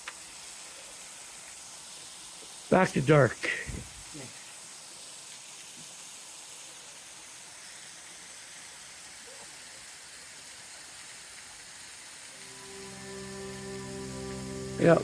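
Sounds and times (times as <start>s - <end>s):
water falling hiss: 0.0s - 15.0s.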